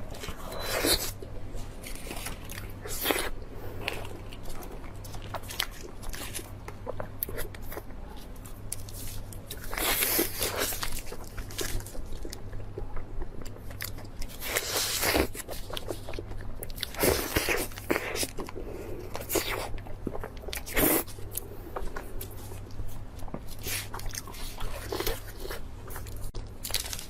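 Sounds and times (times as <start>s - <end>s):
food crunching: 0.0s - 27.0s
person chewing: 0.0s - 27.0s.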